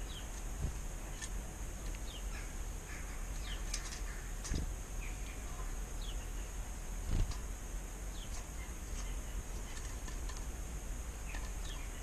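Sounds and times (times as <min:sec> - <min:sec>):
small birds chirping: 0:00.0 - 0:12.0
steady high hiss: 0:00.0 - 0:12.0.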